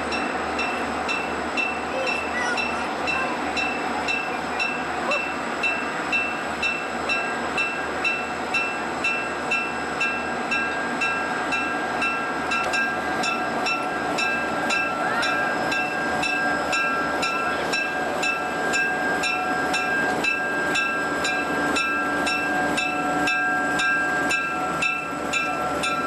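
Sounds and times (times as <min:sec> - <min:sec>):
diesel train rumbling past: 0:00.0 - 0:26.0
steady high tones: 0:00.0 - 0:26.0.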